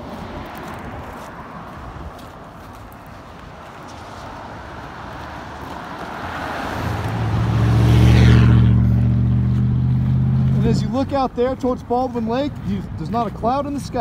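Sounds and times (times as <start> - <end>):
car approaching: 0.0 - 14.0.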